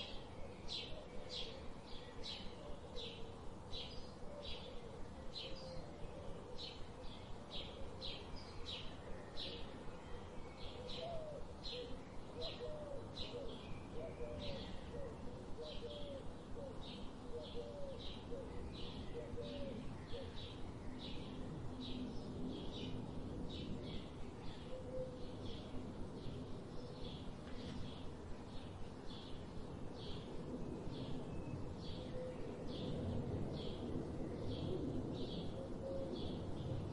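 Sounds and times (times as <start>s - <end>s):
low curving bird calls: 0.0s - 36.9s.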